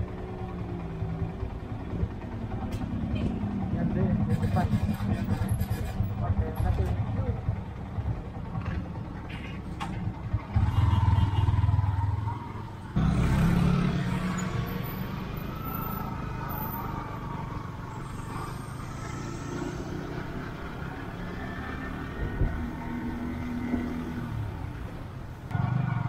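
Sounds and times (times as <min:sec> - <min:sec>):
motorcycle engine: 0:00.0 - 0:26.0.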